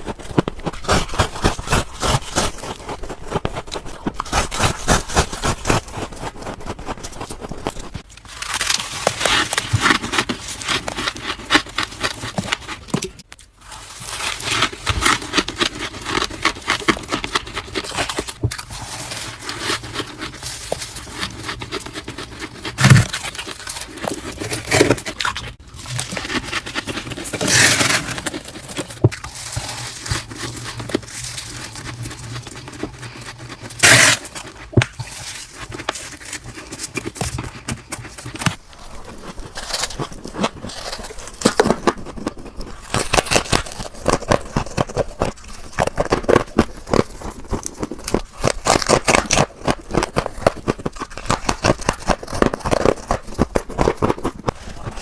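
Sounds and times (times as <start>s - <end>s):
ice being bitten and crunched: 0.0s - 55.0s.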